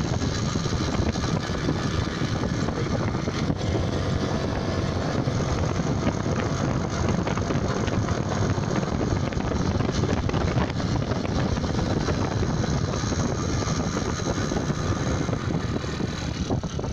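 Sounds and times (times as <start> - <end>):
dense mechanical rattling: 0.0 - 16.9
scooter engine running: 0.0 - 16.9.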